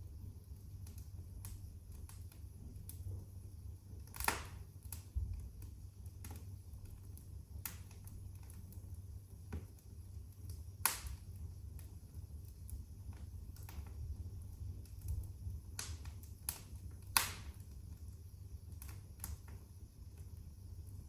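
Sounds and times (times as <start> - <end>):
low rumble of flames: 0.0 - 21.0
fire pops and snaps: 0.5 - 21.0.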